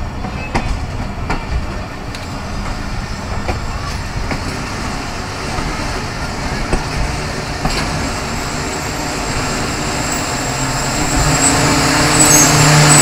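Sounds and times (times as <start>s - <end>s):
rail joint clanks: 0.0s - 13.0s
train wheels rumbling on rails: 0.0s - 13.0s.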